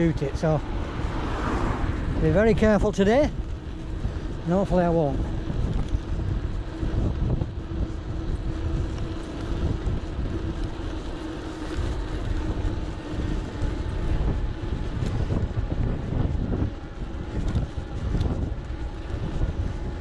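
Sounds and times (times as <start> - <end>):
bike road rumble: 0.0 - 20.0
steady low hum: 0.0 - 20.0
wind buffeting microphone: 0.0 - 20.0.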